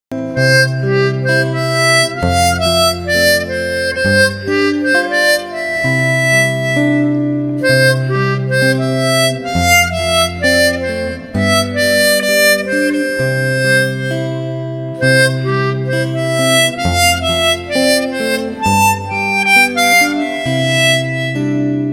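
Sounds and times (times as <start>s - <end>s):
sustained bass notes: 0.1s - 21.9s
reedy harmonica-like instrumental tune: 0.2s - 21.9s.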